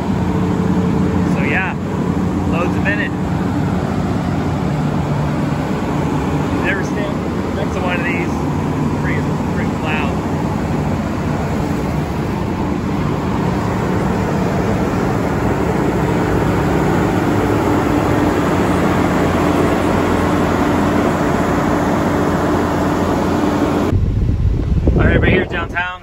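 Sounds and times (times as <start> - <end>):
constant low hum: 0.0 - 26.0
generator engine drone: 0.0 - 26.0.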